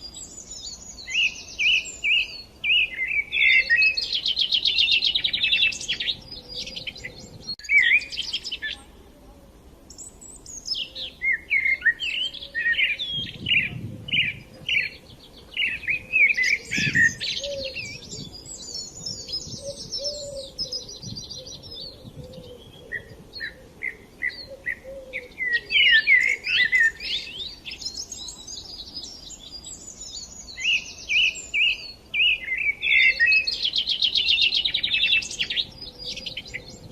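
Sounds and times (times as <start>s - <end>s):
songbirds chirping and trilling: 0.0s - 36.9s.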